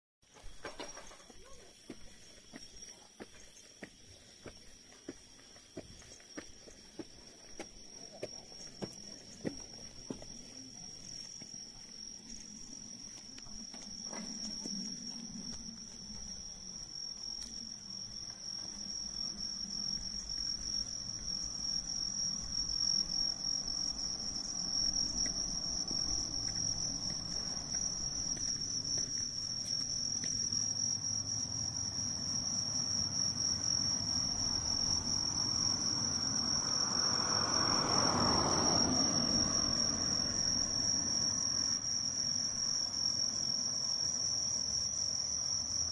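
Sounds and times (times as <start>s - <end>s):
crickets singing: 0.2s - 45.9s.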